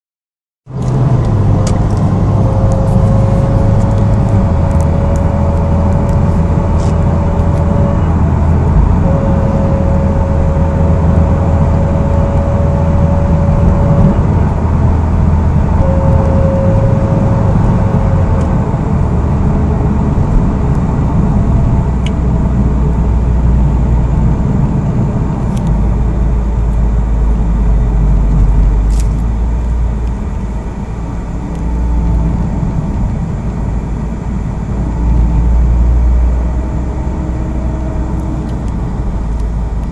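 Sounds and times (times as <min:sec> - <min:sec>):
car engine and road noise: 0:00.6 - 0:39.9
thin high whine: 0:00.8 - 0:39.8.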